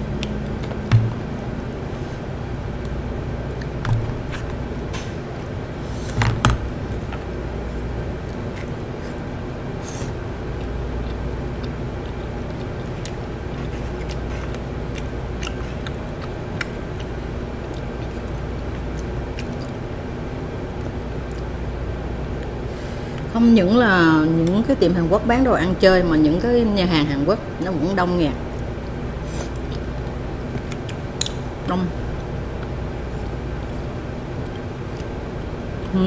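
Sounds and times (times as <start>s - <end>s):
low machine hum: 0.0s - 36.0s.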